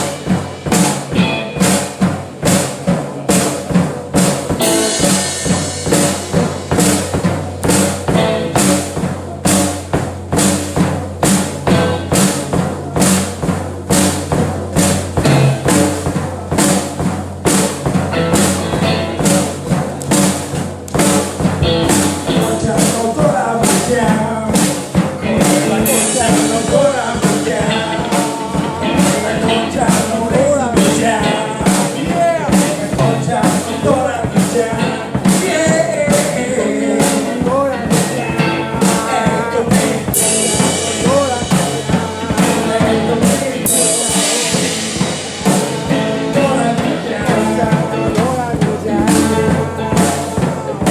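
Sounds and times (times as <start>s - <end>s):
band playing: 0.0s - 50.9s
drum kit beat: 0.0s - 50.9s.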